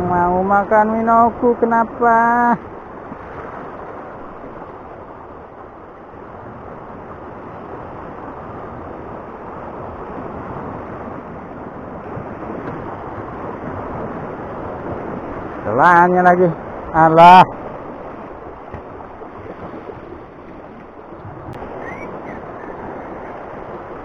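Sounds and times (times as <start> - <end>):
sea surf washing over rocks: 0.0 - 24.0.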